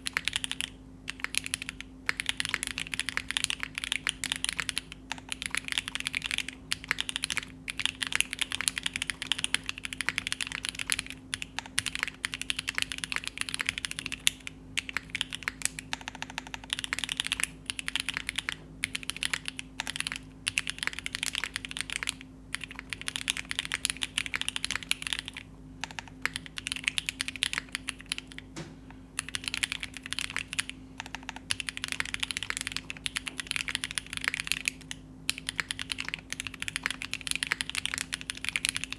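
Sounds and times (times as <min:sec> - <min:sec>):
mechanical keyboard typing: 0:00.0 - 0:28.5, 0:29.2 - 0:38.9.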